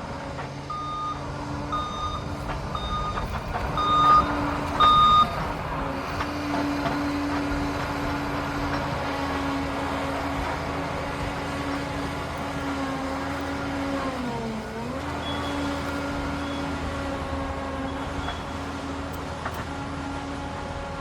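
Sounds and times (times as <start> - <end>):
dozer diesel engine running: 0.0 - 21.0.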